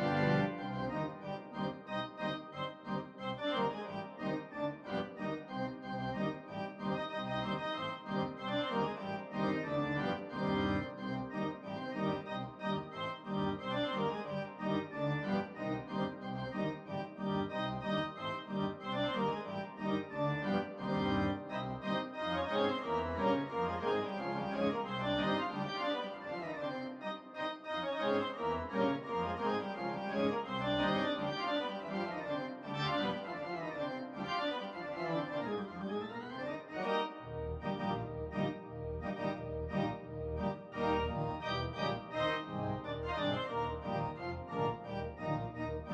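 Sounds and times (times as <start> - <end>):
organ music: 0.0 - 45.9.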